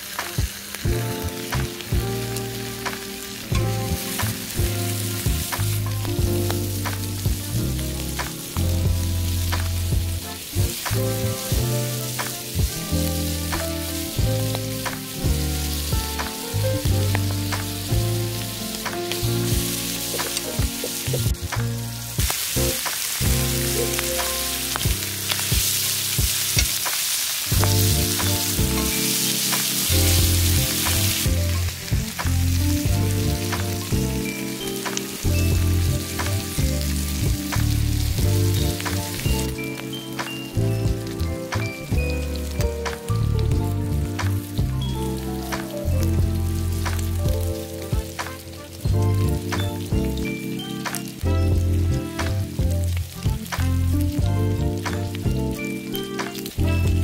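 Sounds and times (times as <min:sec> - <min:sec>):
background music with deep bass: 0:00.0 - 0:26.9, 0:27.5 - 0:57.0
meat sizzling in a pan: 0:00.0 - 0:57.0.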